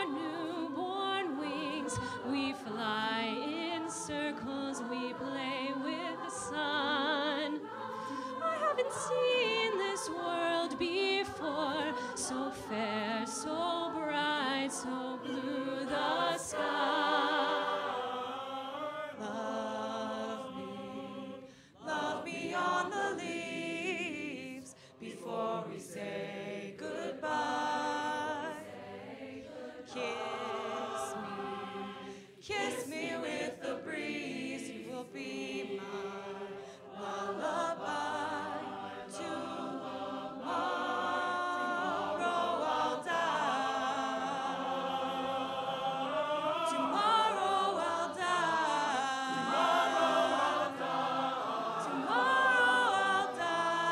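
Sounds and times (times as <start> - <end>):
mixed choir singing: 0.0 - 53.9.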